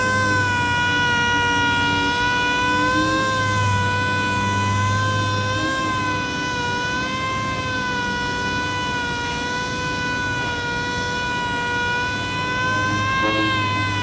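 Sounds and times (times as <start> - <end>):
orbital sander whine: 0.0 - 14.0.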